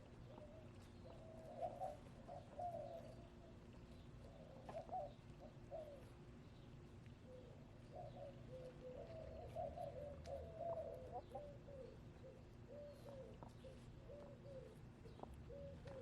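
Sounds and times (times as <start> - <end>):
hens clucking softly: 0.0 - 6.4, 7.0 - 16.0.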